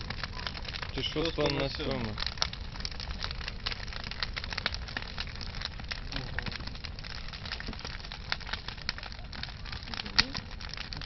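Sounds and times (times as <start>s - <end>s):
bonfire crackling and popping: 0.0s - 11.0s
low fire rumble: 0.0s - 11.0s.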